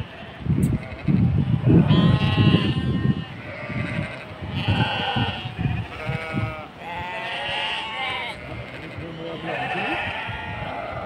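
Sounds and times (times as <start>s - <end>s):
sheep bleating: 0.0s - 11.0s.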